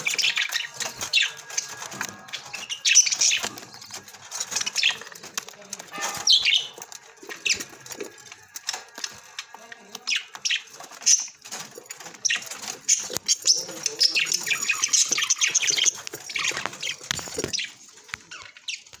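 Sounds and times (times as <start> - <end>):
budgerigars chirping: 0.0 - 19.0.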